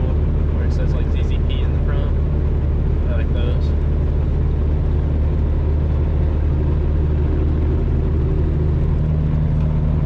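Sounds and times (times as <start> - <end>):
car engine droning: 0.0 - 10.0
road noise: 0.0 - 10.0.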